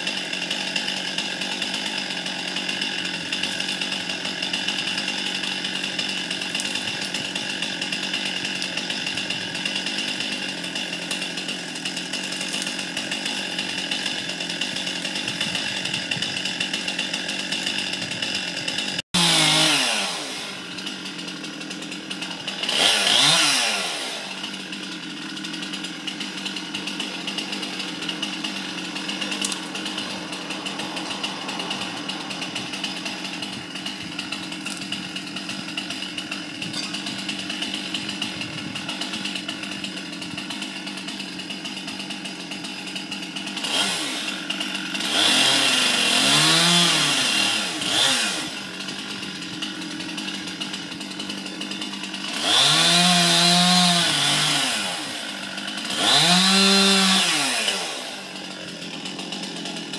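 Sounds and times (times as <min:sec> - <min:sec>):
petrol chainsaw idling and revving: 0:00.0 - 0:59.9.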